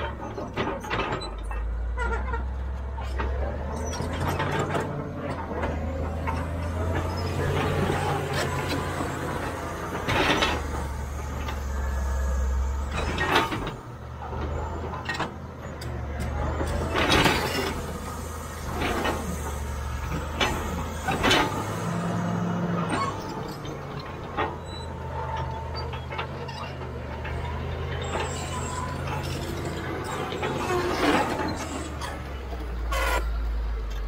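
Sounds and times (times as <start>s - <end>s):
bulldozer diesel engine droning: 0.0s - 34.0s.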